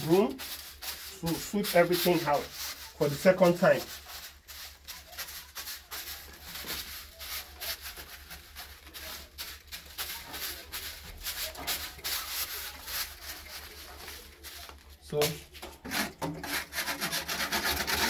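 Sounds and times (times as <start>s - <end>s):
broom sweeping concrete floor: 0.0s - 18.0s.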